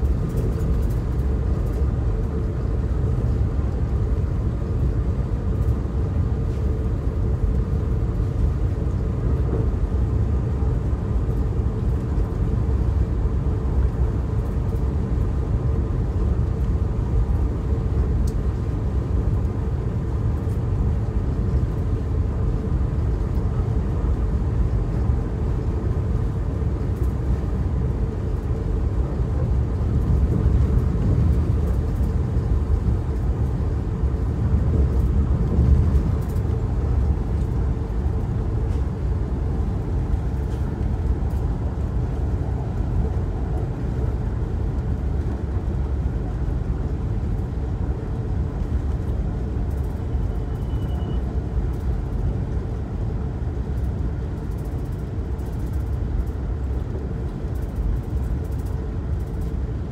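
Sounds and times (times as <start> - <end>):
train rumble from inside coach: 0.0 - 59.9.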